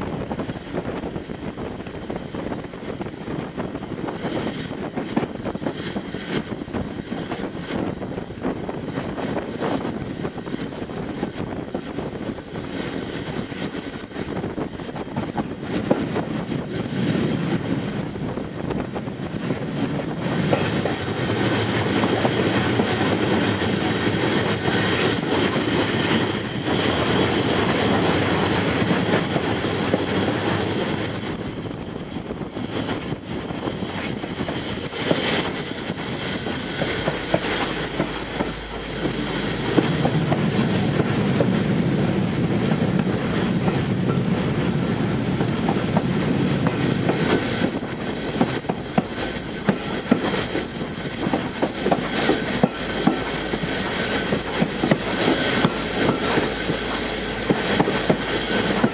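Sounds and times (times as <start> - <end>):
rushing air: 0.0 - 58.9
train wheels rumbling on rails: 0.0 - 58.9.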